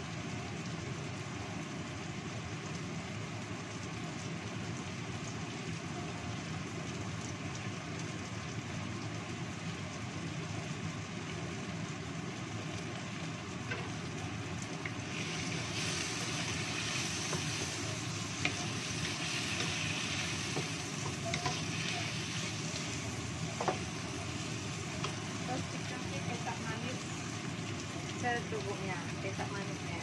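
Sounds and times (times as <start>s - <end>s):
vegetables sizzling in a wok: 0.0s - 30.0s.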